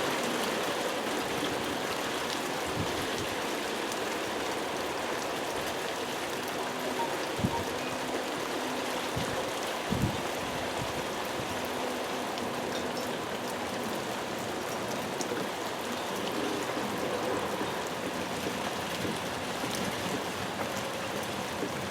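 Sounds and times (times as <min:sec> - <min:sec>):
heavy rain: 0:00.0 - 0:21.9.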